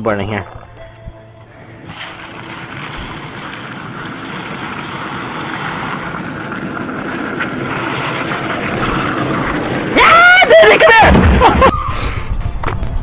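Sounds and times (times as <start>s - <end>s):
wind: 0.0s - 13.0s
longboard wheels rolling on asphalt: 1.5s - 13.0s.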